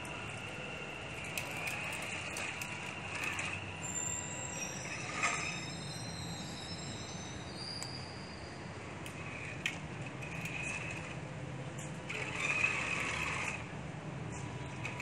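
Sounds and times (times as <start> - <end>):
small electric motor whine: 0.0 - 11.2, 12.1 - 13.7.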